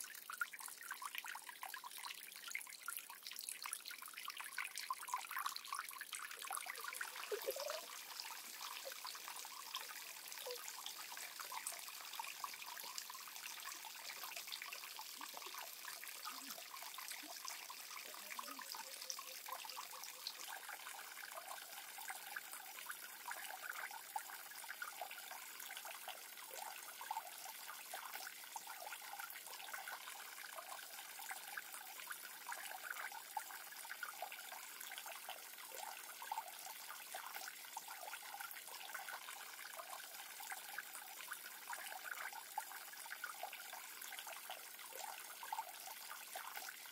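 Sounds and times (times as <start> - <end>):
water drips and splashes: 0.0 - 46.9
water trickling: 0.0 - 46.9.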